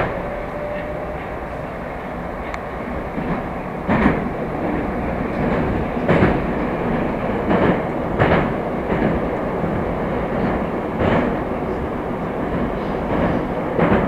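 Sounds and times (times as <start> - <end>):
train rumbling at speed: 0.0 - 14.0.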